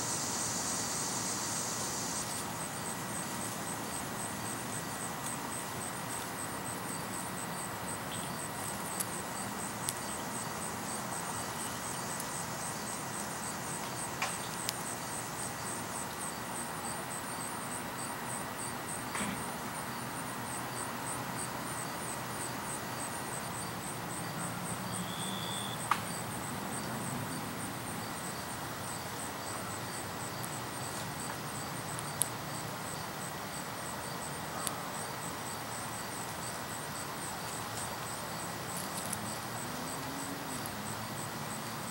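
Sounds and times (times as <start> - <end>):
insect chirping: 0.0 - 41.9.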